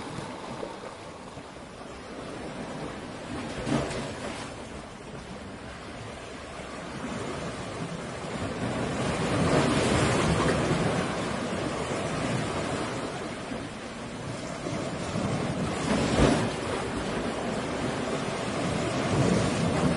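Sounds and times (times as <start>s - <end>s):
sea waves breaking on rocks: 0.0s - 19.9s.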